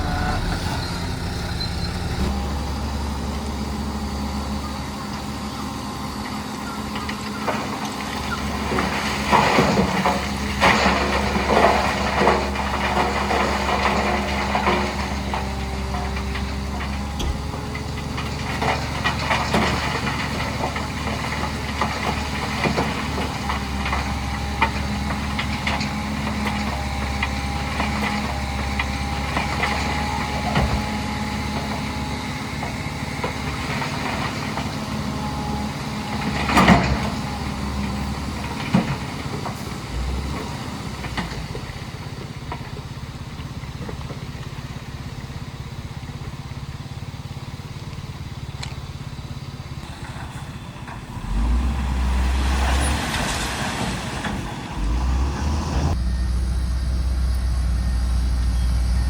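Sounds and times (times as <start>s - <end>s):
diesel earthmoving machinery: 0.0s - 59.0s.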